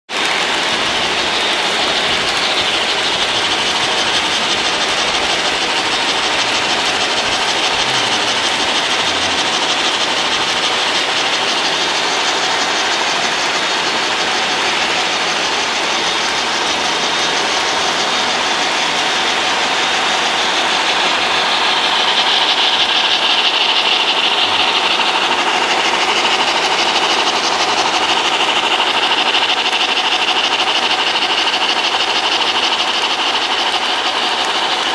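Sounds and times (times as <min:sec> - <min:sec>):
wheels rattling on rails: 0:00.1 - 0:34.9
high whine: 0:00.2 - 0:28.7
electric motors whirring: 0:00.2 - 0:29.5.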